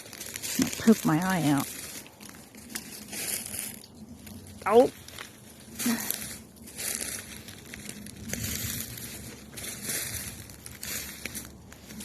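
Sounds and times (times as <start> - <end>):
footsteps crunching through dry leaves: 0.0 - 12.0
twigs scraping past: 0.0 - 12.0.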